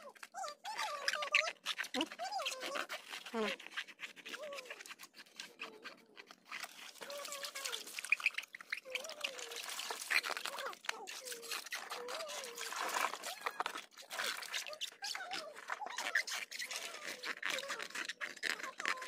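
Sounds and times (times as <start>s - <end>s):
water trickling and splashing: 1.3s - 19.0s.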